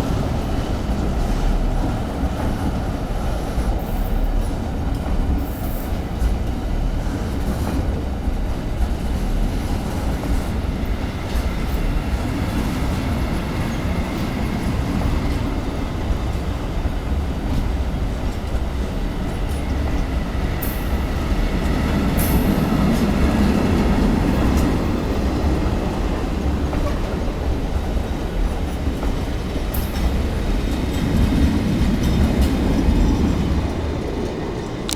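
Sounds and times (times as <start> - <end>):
freight train wheels rumbling: 0.0 - 34.9
train wheels clicking: 0.0 - 34.9.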